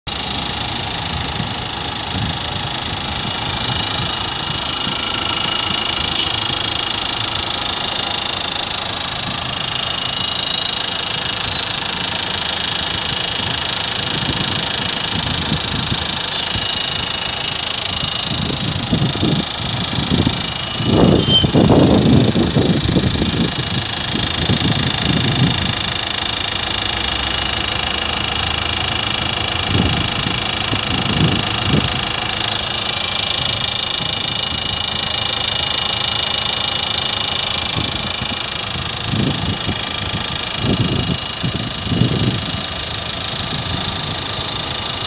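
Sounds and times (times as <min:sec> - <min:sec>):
diesel engine idling: 0:00.1 - 0:45.0
low engine bursts: 0:00.1 - 0:45.0.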